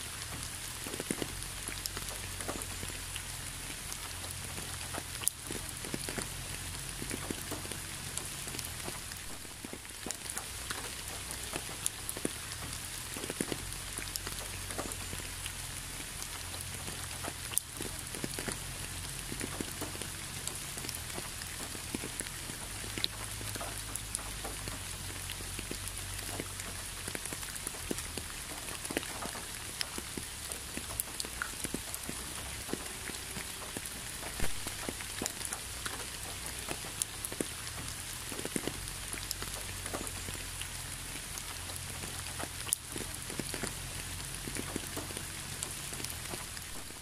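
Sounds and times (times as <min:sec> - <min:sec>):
raindrops ticking on surface: 0:00.0 - 0:47.0
steady rain: 0:00.0 - 0:47.0.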